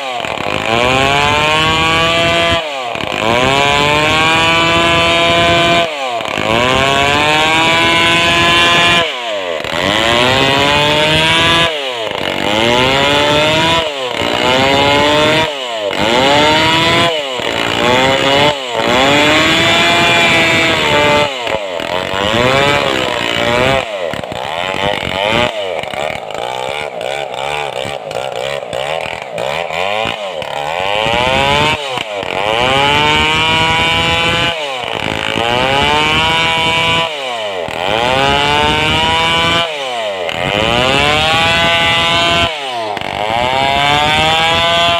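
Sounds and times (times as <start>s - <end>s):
chainsaw cutting a log: 0.0s - 44.9s.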